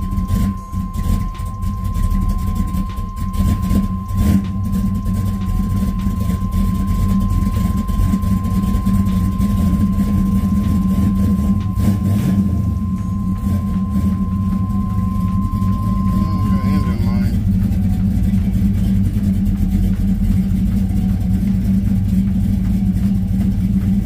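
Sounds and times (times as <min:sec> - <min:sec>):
thin high tone: 0:00.0 - 0:22.1
engine idling: 0:00.0 - 0:24.0.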